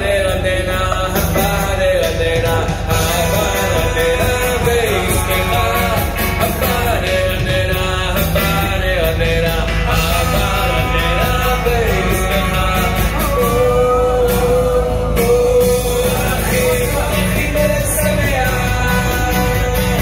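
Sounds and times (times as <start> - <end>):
band accompaniment: 0.0 - 20.0
person singing: 0.0 - 20.0.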